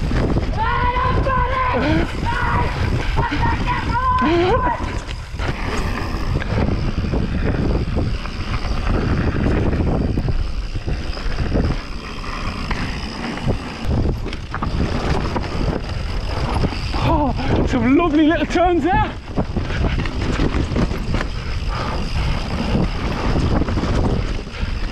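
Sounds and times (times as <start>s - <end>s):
bike knocking and rattling: 0.0s - 24.9s
wind rushing over microphone: 0.0s - 24.9s.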